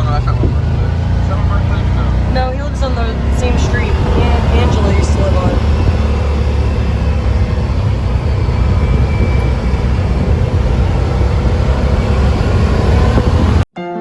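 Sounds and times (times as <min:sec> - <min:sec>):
off-road vehicle engine rumble: 0:00.0 - 0:13.7.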